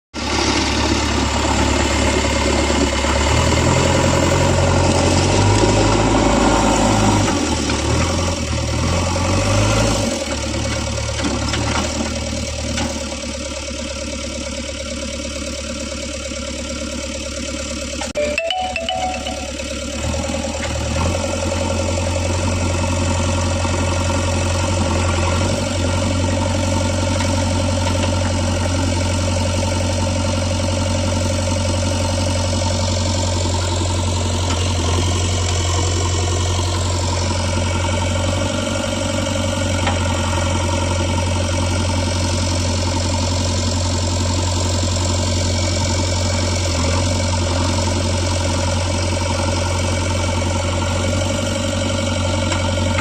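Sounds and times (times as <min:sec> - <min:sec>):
diesel engine running: 0:00.2 - 0:53.0.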